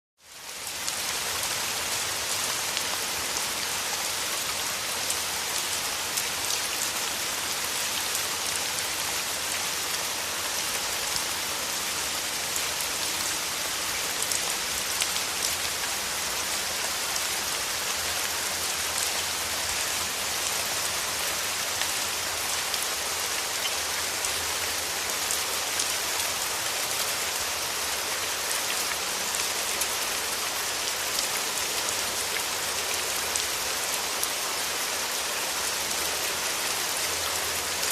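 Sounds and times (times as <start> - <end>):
steady rain hiss: 0.2 - 37.9.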